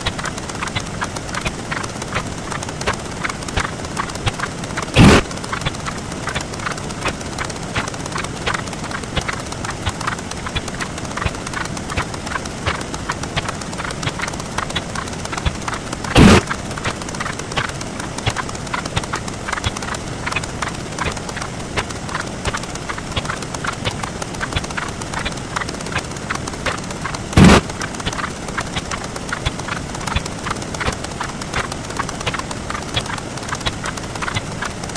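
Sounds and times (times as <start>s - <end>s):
fast patter of short clicks: 0.0s - 34.9s.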